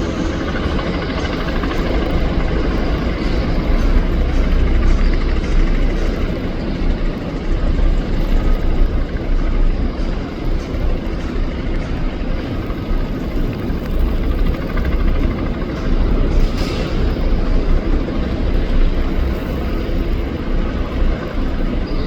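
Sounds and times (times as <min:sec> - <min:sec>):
helicopter flying: 0:00.0 - 0:22.0.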